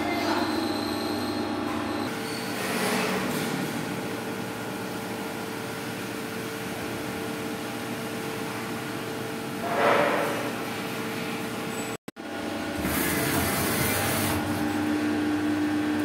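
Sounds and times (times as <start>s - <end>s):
machinery hum with constant tone: 0.0s - 16.0s.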